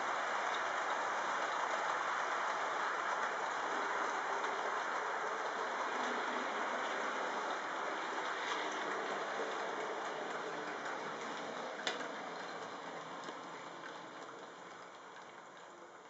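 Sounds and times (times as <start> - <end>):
model train wheels rattling on rails: 0.0 - 16.0
ticks over rail joints: 0.5 - 16.0.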